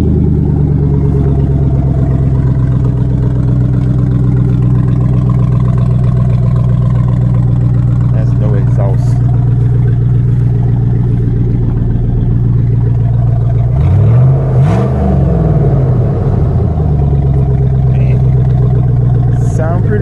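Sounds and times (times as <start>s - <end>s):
truck engine idling and revving: 0.0s - 20.0s.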